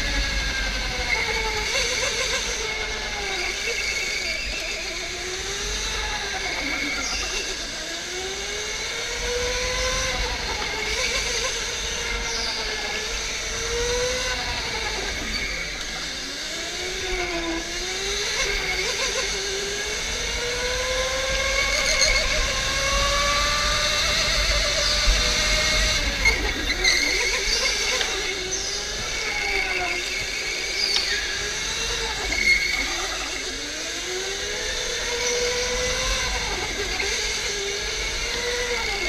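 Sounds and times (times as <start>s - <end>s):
electric go-kart motor whining: 0.0s - 39.0s.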